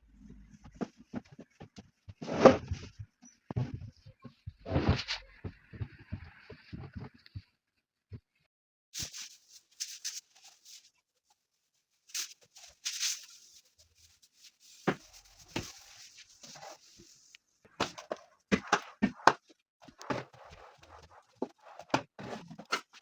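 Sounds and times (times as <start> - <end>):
household items rustling and scraping: 0.2 - 7.2, 9.0 - 11.0, 12.0 - 23.0.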